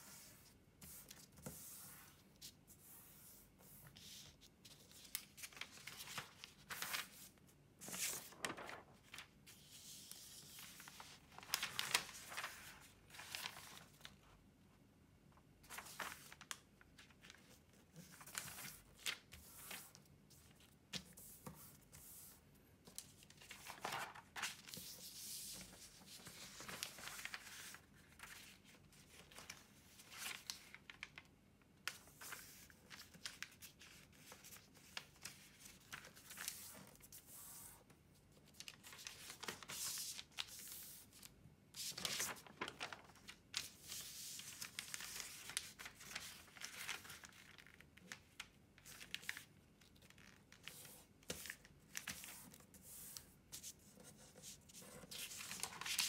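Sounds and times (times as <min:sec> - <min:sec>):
paper rustling and crinkling: 0:03.6 - 0:14.3, 0:15.6 - 0:22.3, 0:22.9 - 0:37.8, 0:38.4 - 0:56.0.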